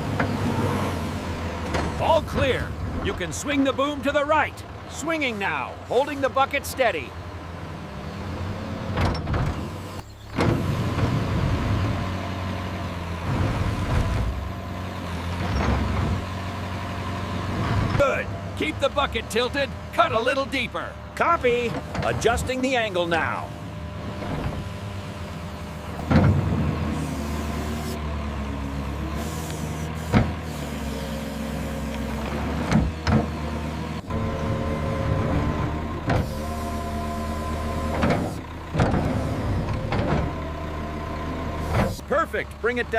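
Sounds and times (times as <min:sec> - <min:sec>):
diesel engine humming: 0:00.0 - 0:42.9.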